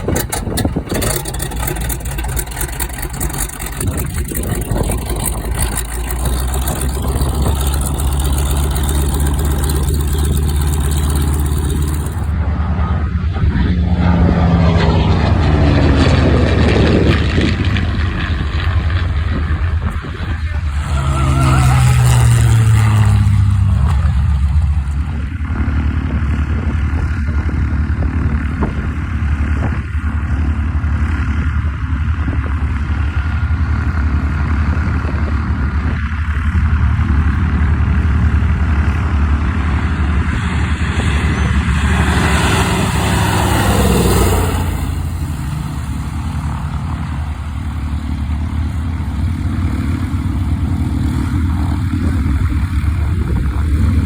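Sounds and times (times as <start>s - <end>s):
propeller plane flying past: 0.0s - 54.0s.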